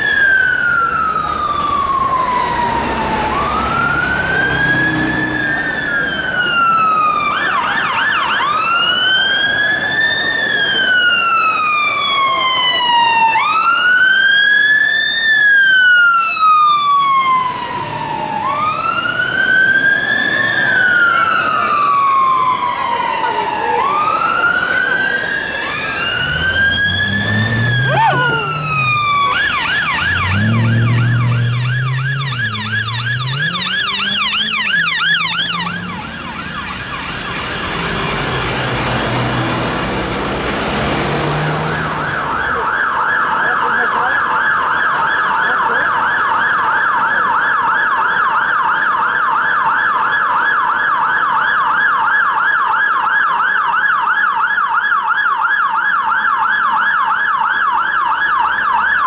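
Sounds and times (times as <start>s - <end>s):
engine and traffic rumble: 0.0s - 59.0s
fire engine siren yelp: 0.0s - 59.0s
police siren wail and yelp: 0.0s - 59.0s.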